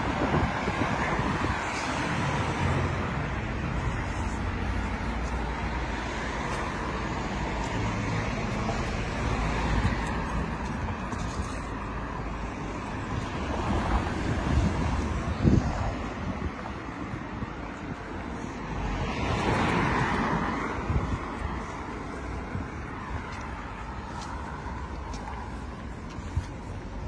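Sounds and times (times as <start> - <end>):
cars driving past: 0.0 - 27.0.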